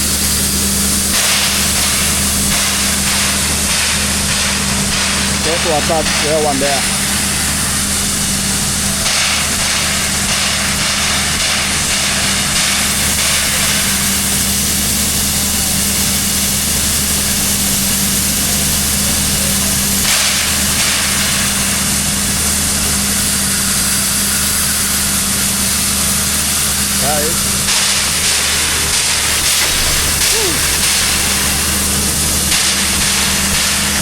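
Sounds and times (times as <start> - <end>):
steam hissing: 0.0 - 34.0
steam locomotive hum: 0.0 - 34.0.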